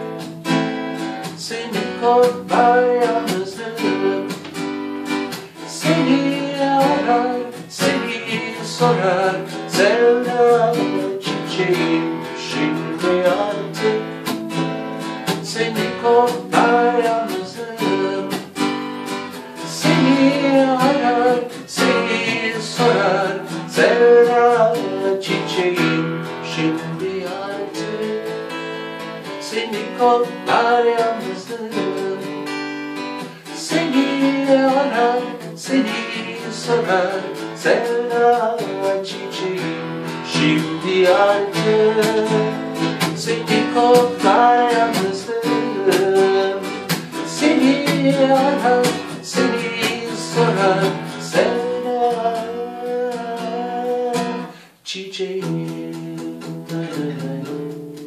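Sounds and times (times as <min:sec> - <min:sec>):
acoustic guitar strummed: 0:00.0 - 0:58.0
man singing: 0:01.2 - 0:04.6, 0:05.4 - 0:14.4, 0:15.2 - 0:18.9, 0:19.5 - 0:32.6, 0:33.2 - 0:58.0.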